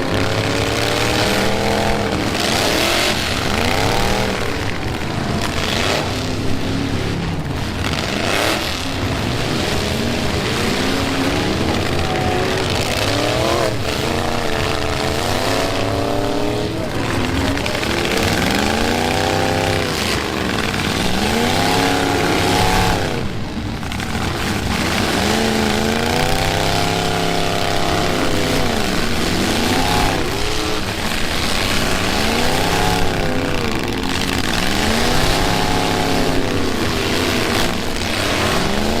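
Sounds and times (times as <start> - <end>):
truck engines revving: 0.0 - 39.0.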